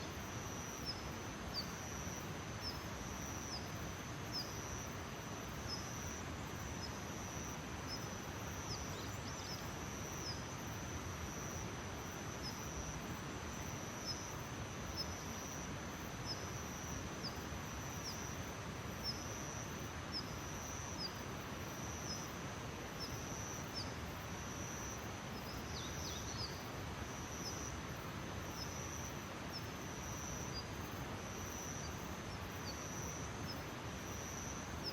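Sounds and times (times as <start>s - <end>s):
background hiss: 0.0s - 34.9s
insect trill: 0.0s - 34.9s.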